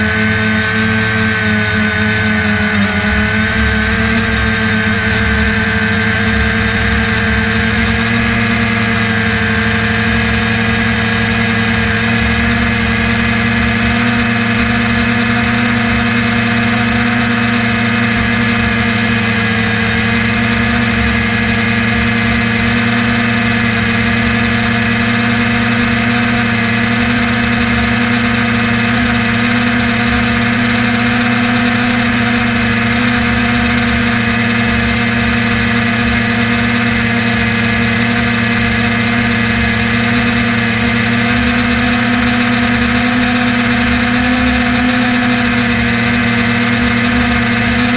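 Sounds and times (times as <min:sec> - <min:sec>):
aircraft engine and propeller drone: 0:00.0 - 0:47.9
thin high whine: 0:00.0 - 0:47.9.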